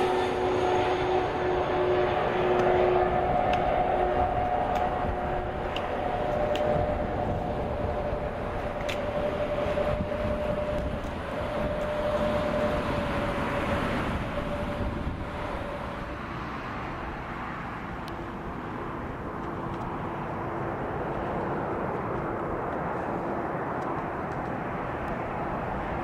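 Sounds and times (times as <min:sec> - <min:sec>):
jet aircraft whine: 0:00.0 - 0:26.0.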